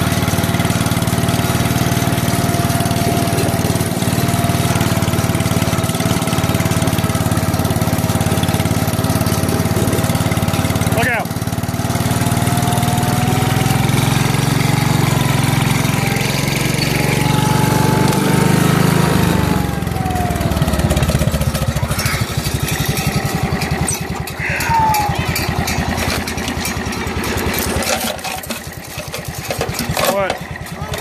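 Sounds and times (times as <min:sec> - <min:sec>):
lawn tractor engine running: 0:00.0 - 0:31.0.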